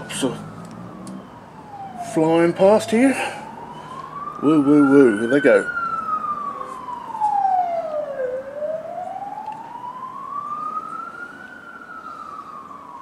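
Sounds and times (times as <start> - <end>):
police siren wailing: 0.0 - 13.0.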